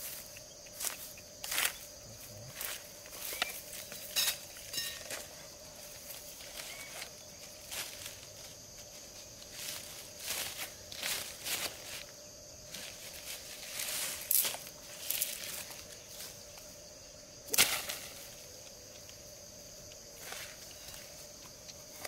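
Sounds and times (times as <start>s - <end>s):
dry grass and leaves rustling: 0.0s - 22.0s.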